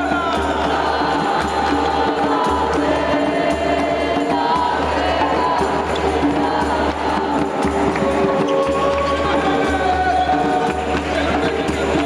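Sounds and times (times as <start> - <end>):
group singing: 0.0 - 12.0
tambourine and percussion: 0.0 - 12.0.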